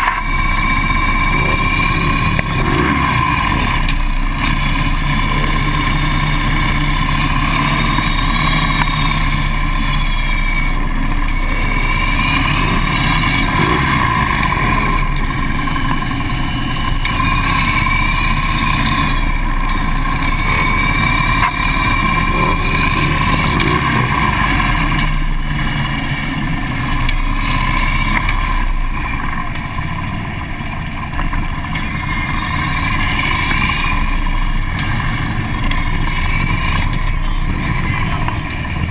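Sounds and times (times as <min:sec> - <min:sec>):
motorcycle engine running steadily: 0:00.0 - 0:38.9.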